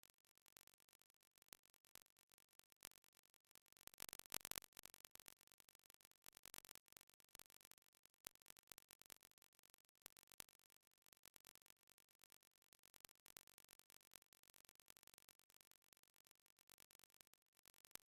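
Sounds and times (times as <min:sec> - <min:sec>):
faint crackling clicks: 0:00.0 - 0:18.0.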